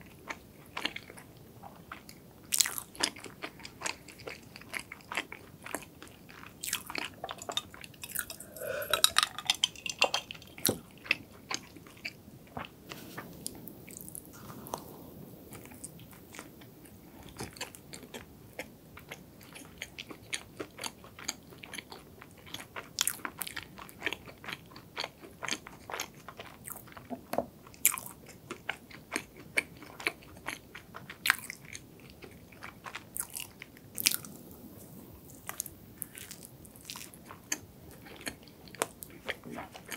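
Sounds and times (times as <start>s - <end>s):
chewing donut: 0.0s - 15.0s, 15.6s - 39.9s.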